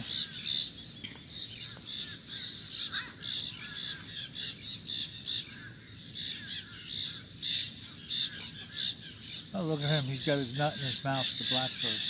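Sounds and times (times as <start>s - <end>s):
birds calling harshly: 0.0s - 12.0s.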